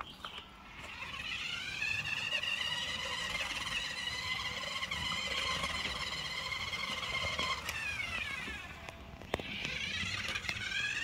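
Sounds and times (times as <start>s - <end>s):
electric motor whining: 0.2s - 11.0s.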